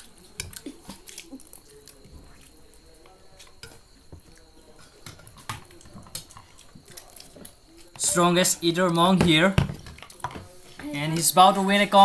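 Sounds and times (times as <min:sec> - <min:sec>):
children slurping and chewing: 0:00.0 - 0:12.0.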